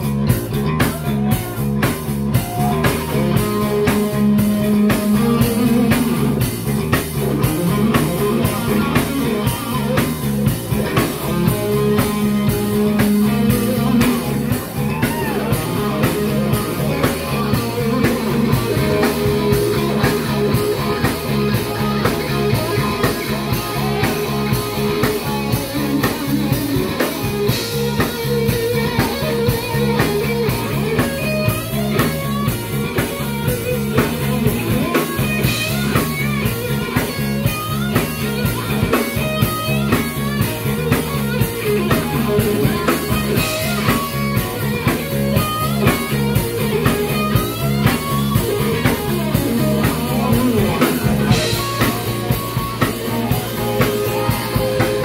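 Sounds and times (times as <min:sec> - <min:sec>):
drum kit beat: 0:00.0 - 0:55.0
electric guitar: 0:00.0 - 0:55.0.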